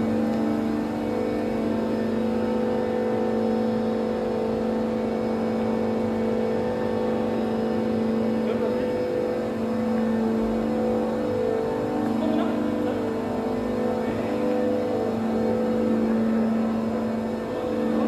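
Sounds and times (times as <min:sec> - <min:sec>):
heavy construction machinery humming: 0:00.0 - 0:18.0.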